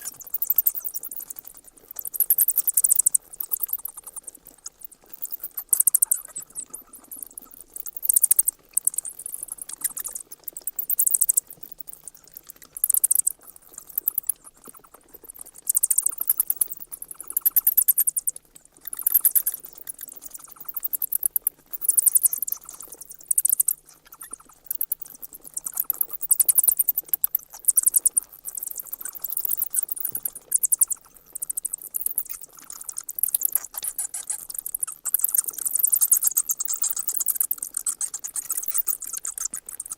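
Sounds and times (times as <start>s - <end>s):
bats squeaking: 0.0s - 39.9s.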